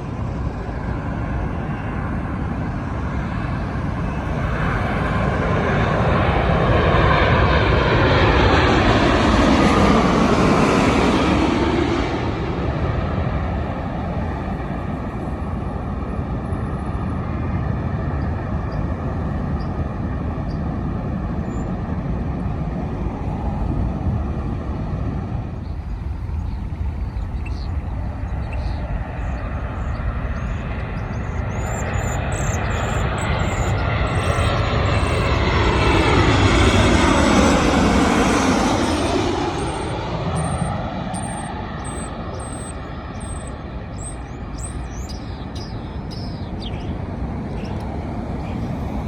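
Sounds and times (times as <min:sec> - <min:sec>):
jet engines rumbling: 0:00.0 - 0:49.0.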